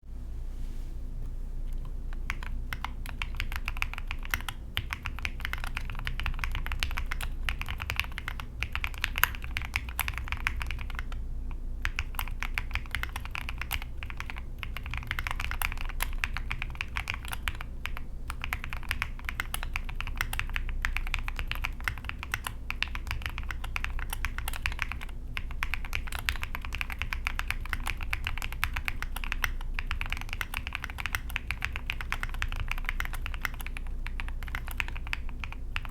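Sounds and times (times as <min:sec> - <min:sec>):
fast typing on mechanical keyboard: 0:02.2 - 0:11.2, 0:11.8 - 0:35.9.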